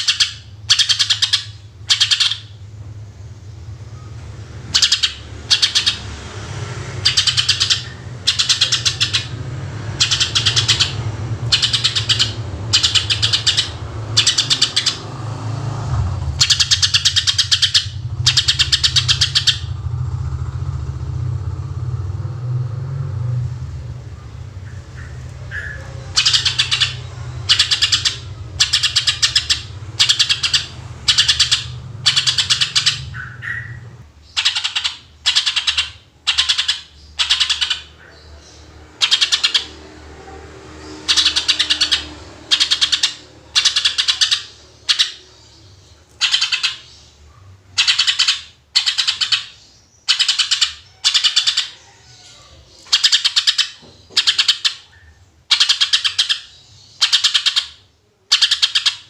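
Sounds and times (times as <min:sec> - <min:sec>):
bird rapid harsh rattling calls: 0:00.0 - 0:02.7, 0:04.2 - 0:20.7, 0:24.6 - 0:59.0.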